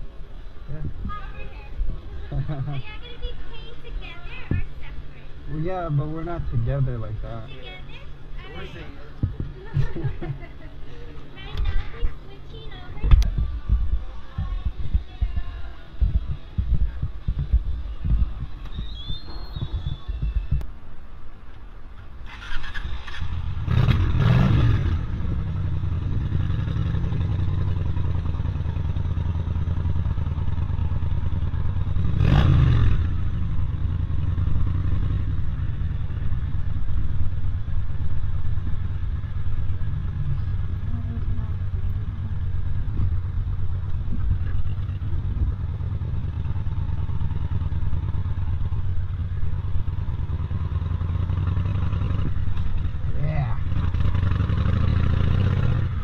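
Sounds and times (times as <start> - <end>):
road traffic rumbling: 0.0 - 56.0
vehicles passing close by: 0.0 - 56.0.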